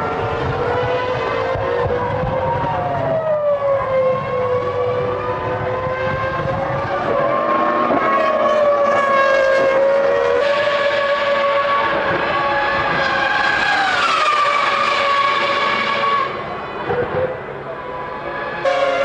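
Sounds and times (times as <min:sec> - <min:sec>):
racing car engines at high revs: 0:00.0 - 0:19.0.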